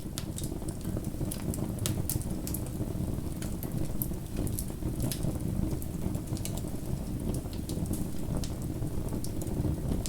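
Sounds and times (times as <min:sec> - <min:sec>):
low rumble of flames: 0:00.0 - 0:10.0.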